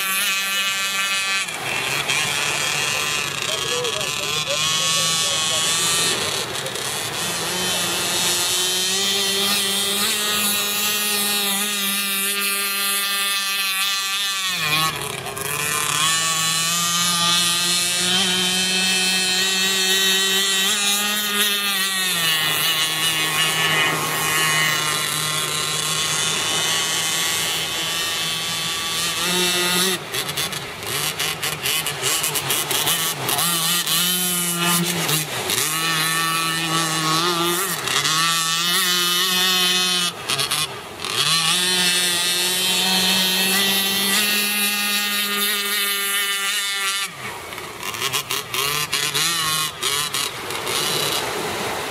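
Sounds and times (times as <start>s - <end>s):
model boat engine revving: 0.0s - 51.9s.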